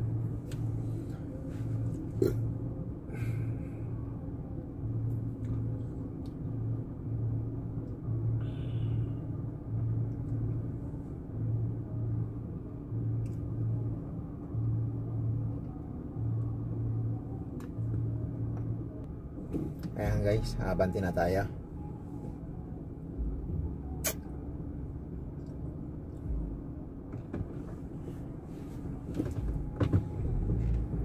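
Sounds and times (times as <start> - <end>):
freight train rumble: 0.0 - 31.0
steady low hum: 0.0 - 31.0.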